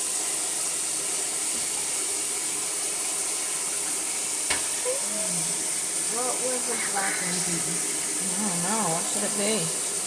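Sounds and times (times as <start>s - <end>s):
water pouring into bathtub: 0.0s - 10.0s.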